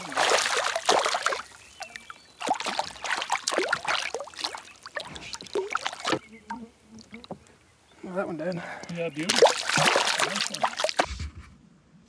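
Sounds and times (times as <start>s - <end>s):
water splashing and dripping: 0.0s - 7.9s, 8.6s - 11.1s.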